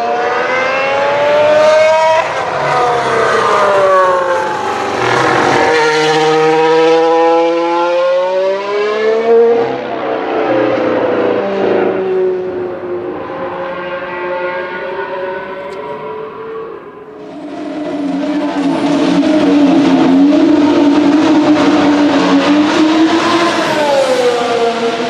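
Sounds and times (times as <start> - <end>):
racing car engine shifting gears: 0.0 - 25.0.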